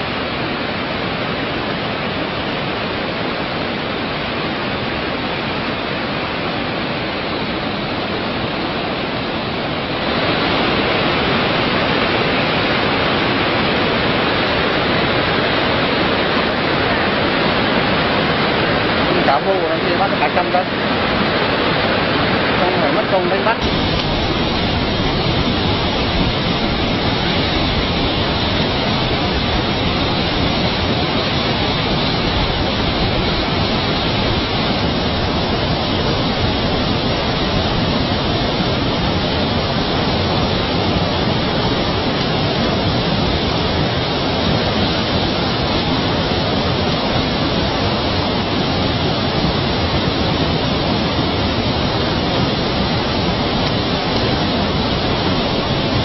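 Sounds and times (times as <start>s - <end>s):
water rushing down a spillway: 0.0s - 56.0s.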